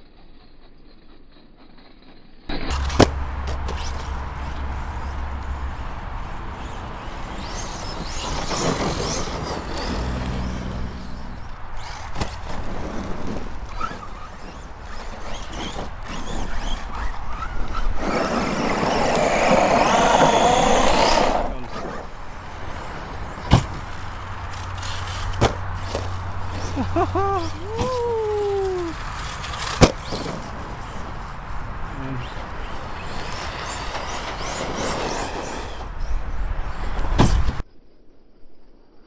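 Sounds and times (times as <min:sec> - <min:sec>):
rc truck electric motor: 0:00.0 - 0:37.6.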